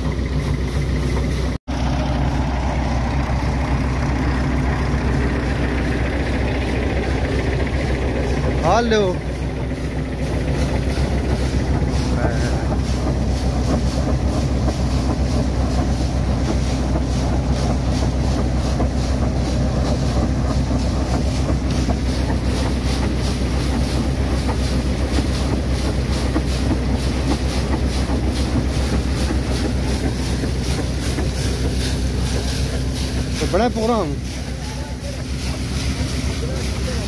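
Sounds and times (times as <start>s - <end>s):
drilling rig engine running: 0.0s - 37.0s
water gushing from a pipe: 0.0s - 37.0s.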